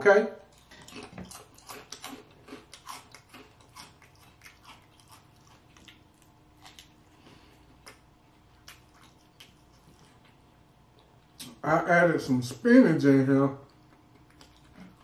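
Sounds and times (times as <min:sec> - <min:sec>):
person chewing food: 0:00.4 - 0:11.5, 0:13.7 - 0:15.0.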